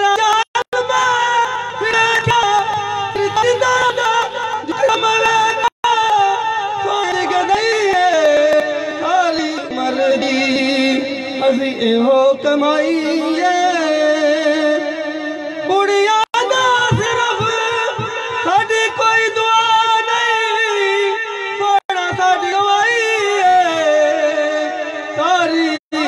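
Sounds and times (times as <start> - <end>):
man singing through loudspeakers: 0.0 - 26.0.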